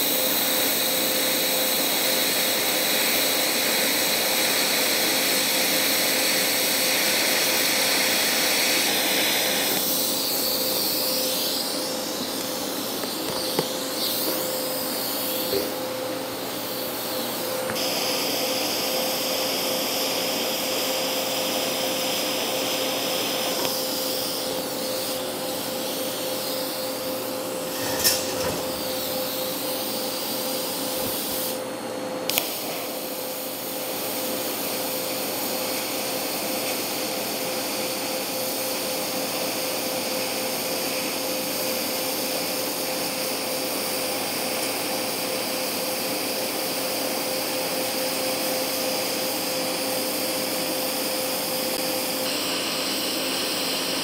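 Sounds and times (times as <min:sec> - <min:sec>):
welding arc hiss and whine: 0:00.0 - 0:54.0.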